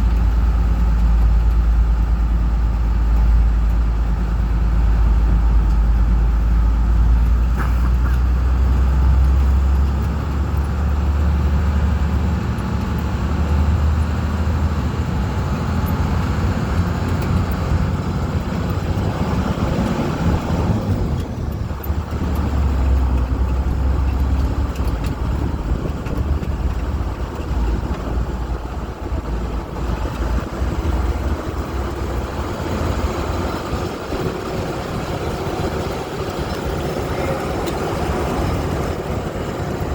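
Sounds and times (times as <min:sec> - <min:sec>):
boat engine low rumble: 0:00.0 - 0:39.9
road or water noise: 0:00.0 - 0:39.9.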